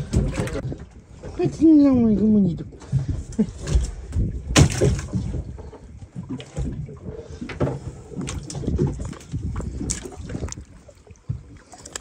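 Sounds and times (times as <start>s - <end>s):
water sloshing in a boat: 0.0s - 12.0s.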